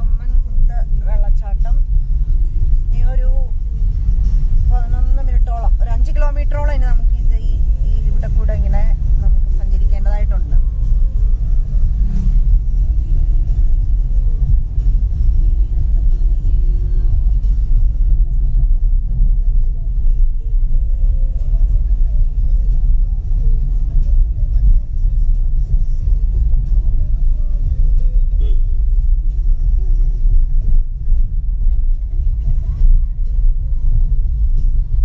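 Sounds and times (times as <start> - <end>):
road noise: 0.0 - 35.0
vehicle driving rumble: 0.0 - 35.0.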